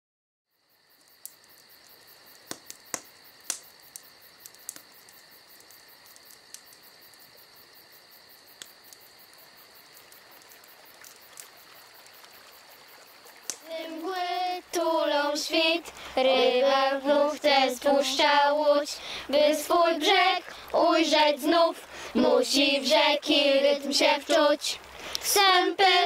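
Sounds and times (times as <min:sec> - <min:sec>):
crickets trilling: 0:00.5 - 0:26.0.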